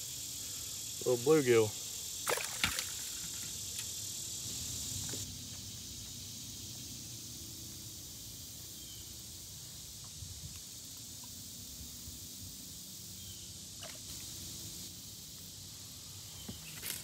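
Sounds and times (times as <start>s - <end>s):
faint outdoor background: 0.0s - 17.0s
insects buzzing: 0.0s - 17.0s.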